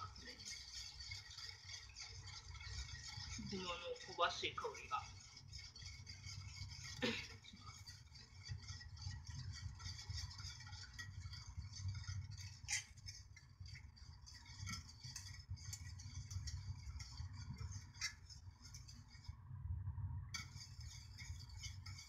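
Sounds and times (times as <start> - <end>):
steady low hum: 0.0 - 22.0
whisk scraping metal saucepan: 0.0 - 22.0.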